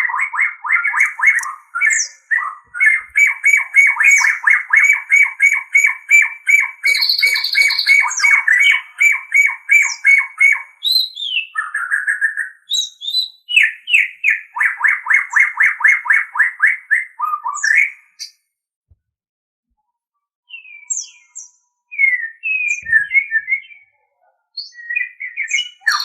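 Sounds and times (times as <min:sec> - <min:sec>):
bird chirping song: 0:00.0 - 0:18.4, 0:20.4 - 0:26.0.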